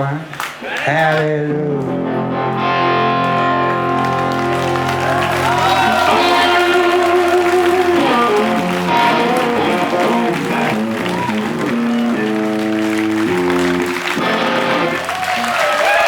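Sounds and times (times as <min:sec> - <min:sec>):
live blues band playing: 0:01.2 - 0:16.0
bending guitar notes: 0:01.3 - 0:15.6.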